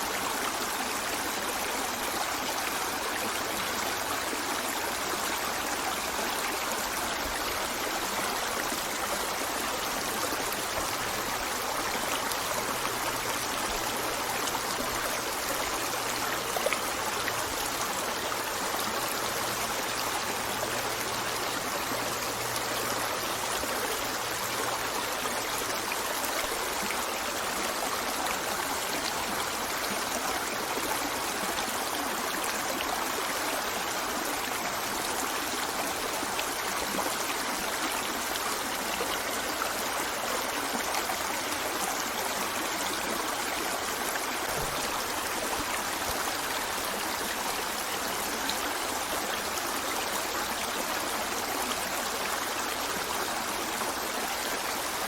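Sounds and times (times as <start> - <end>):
river water over rocks: 0.0 - 55.0.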